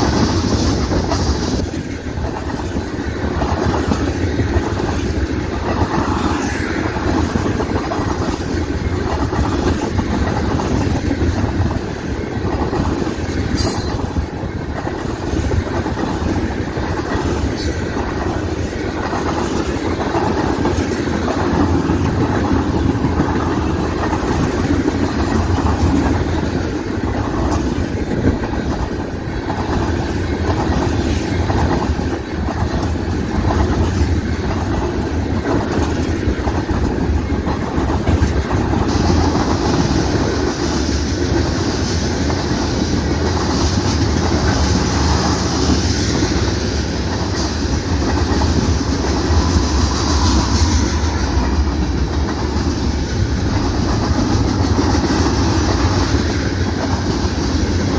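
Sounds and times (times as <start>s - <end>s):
train rumble: 0.0s - 57.9s
train wheels clicking over rail joints: 0.0s - 57.9s.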